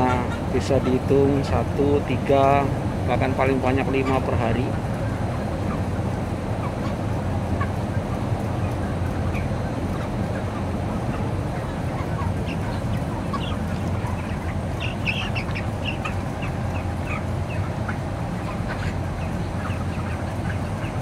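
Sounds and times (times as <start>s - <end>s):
flock of chickens clucking: 0.0s - 21.0s
steady low hum: 0.0s - 21.0s.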